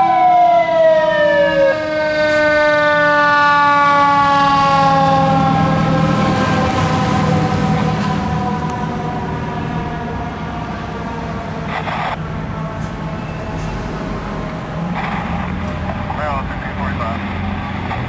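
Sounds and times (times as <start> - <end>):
siren: 0.0 - 16.7
fire engine diesel engine: 0.0 - 18.0.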